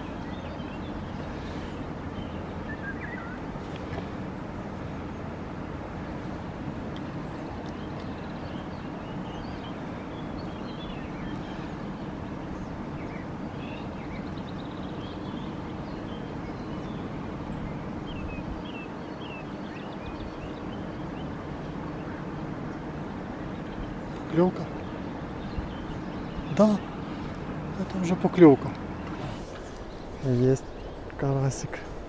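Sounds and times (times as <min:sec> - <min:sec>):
low outdoor rumble: 0:00.0 - 0:32.0
small birds singing: 0:00.0 - 0:32.0.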